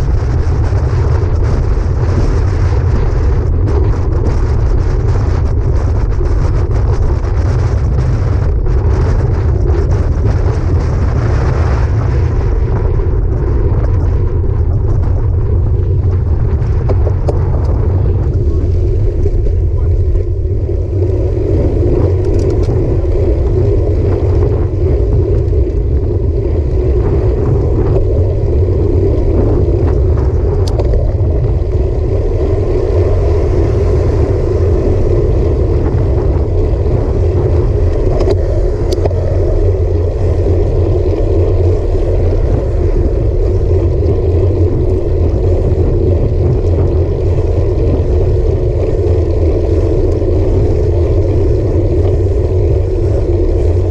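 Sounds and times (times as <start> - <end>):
bicycle tyre noise on road: 0.0 - 53.9
wind buffeting microphone: 0.0 - 53.9.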